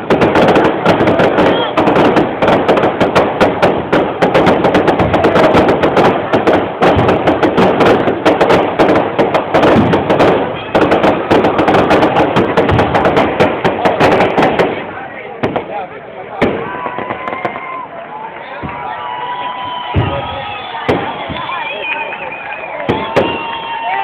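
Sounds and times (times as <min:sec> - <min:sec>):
fireworks barrage: 0:00.0 - 0:24.0.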